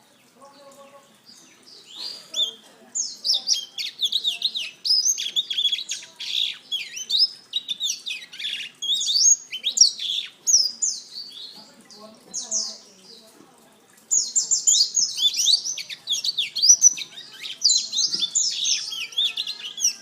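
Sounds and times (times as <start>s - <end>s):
canary singing warbling song: 0.0s - 13.4s, 14.0s - 20.0s.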